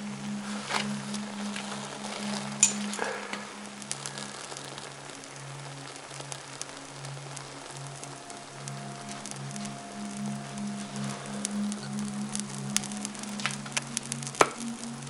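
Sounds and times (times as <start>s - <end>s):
fire popping: 0.0s - 15.0s
kindling fire crackling: 0.0s - 15.0s
low steady drone: 0.0s - 15.0s.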